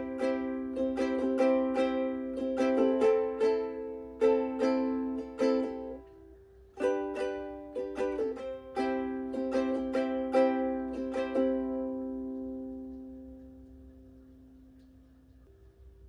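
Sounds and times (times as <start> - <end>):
ukulele chords strummed: 0.0 - 14.5.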